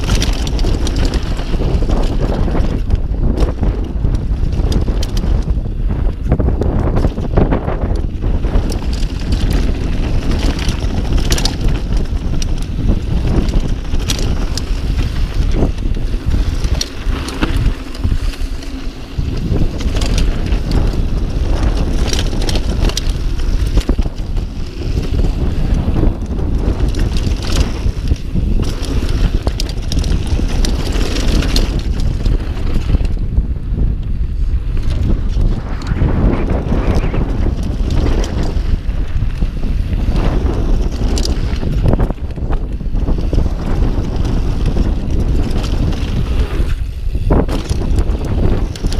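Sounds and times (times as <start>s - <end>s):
bike rattling over bumps: 0.0s - 48.9s
bike tyres rolling: 0.0s - 48.9s
wind buffeting microphone: 0.0s - 48.9s.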